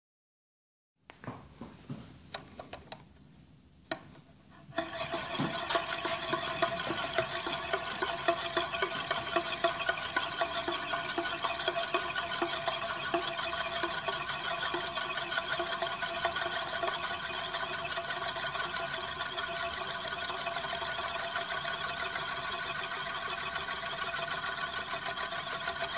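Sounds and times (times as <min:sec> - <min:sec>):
metal disk whirring rattle: 0:04.6 - 0:25.9.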